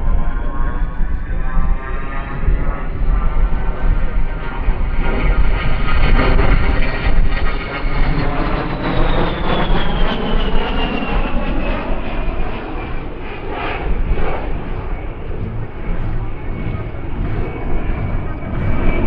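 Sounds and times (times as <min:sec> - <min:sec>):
jet engine rumble and whine: 0:00.0 - 0:19.0.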